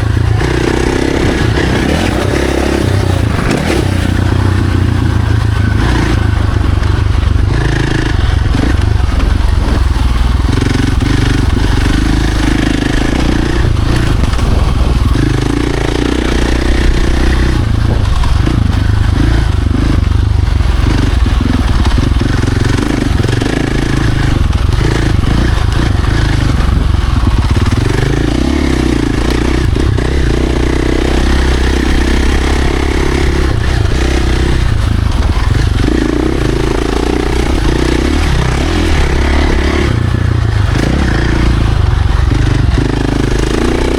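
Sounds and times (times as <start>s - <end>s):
bike rattling: 0.0s - 43.9s
dirt bike engine revving: 0.0s - 43.9s.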